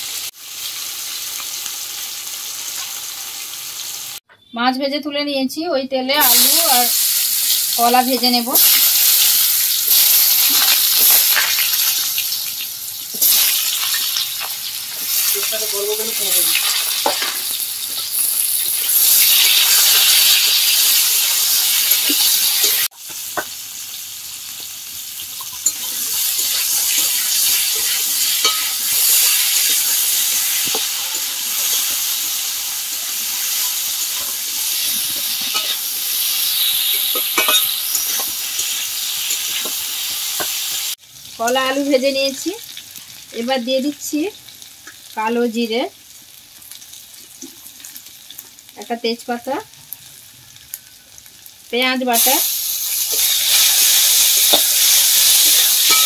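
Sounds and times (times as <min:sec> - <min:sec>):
food sizzling in oil: 0:00.0 - 0:04.2, 0:06.1 - 0:56.0.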